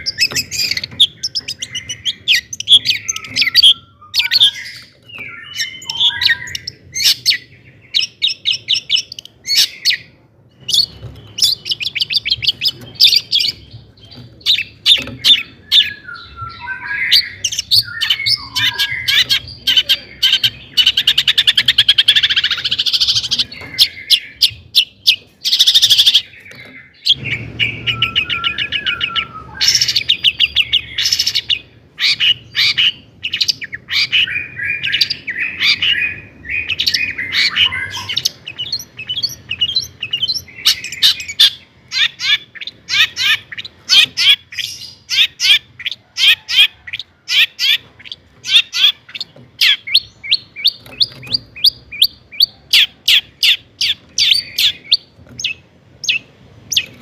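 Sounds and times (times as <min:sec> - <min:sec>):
shrike singing fast varied song: 0:00.0 - 0:56.9.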